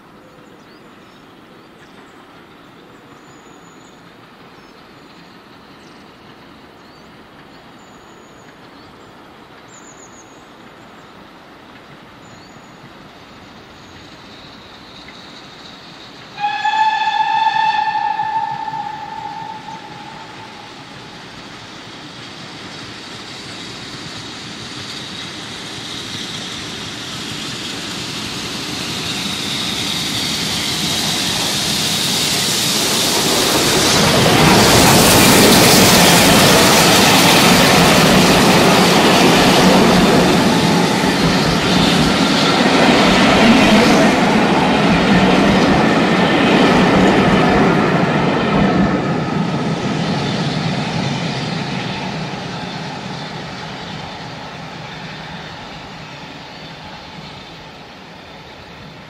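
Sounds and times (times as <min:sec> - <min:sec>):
steam train passing: 0:00.0 - 0:59.0
train wheels on rails: 0:00.0 - 0:59.0.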